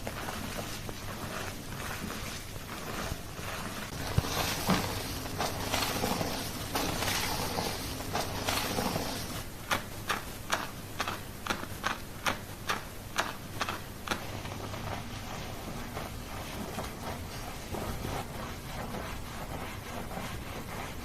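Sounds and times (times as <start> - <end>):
rustling scrubbing of hair: 0.0 - 9.5, 13.2 - 21.0.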